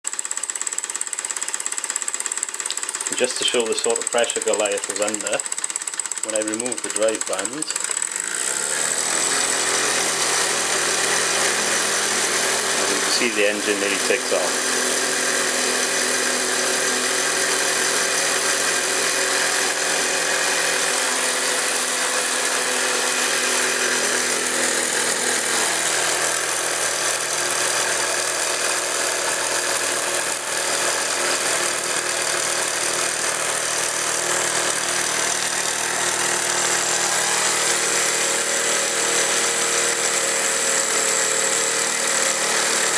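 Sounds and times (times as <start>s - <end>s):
model steam engine whirring: 0.1s - 42.9s.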